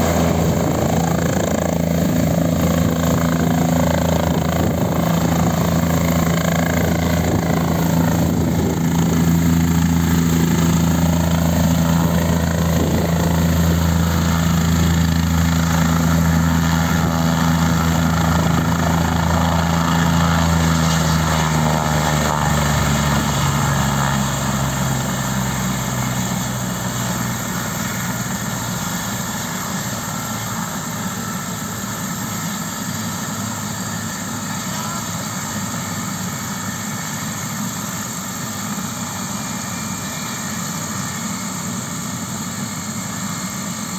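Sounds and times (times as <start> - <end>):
helicopter engine and rotor: 0.0 - 43.9.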